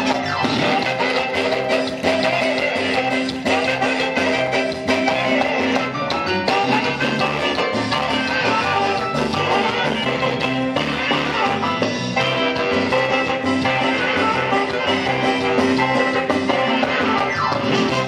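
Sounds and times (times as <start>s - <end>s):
band playing latin dance music: 0.0s - 18.0s.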